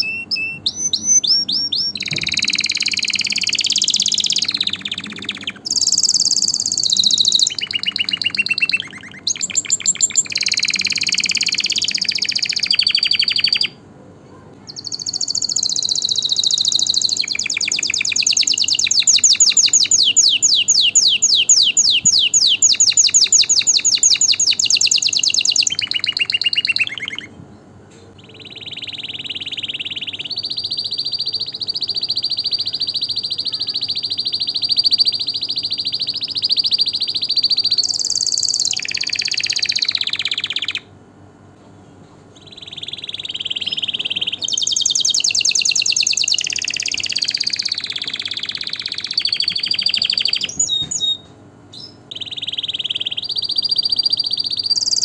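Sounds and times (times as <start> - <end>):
canary singing: 0.0 - 27.4, 28.1 - 41.0, 42.4 - 55.0.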